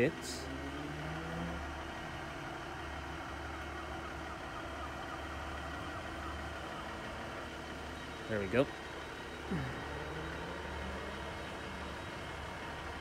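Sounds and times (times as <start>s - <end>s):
train diesel engines idling: 0.0s - 13.0s.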